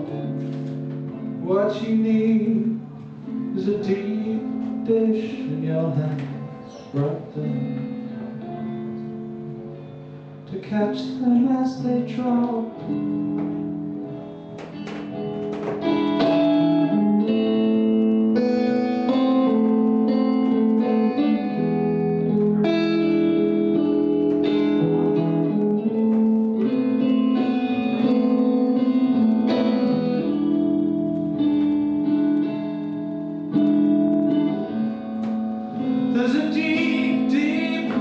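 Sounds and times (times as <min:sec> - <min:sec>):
guitar playing plucked notes: 0:00.0 - 0:38.0.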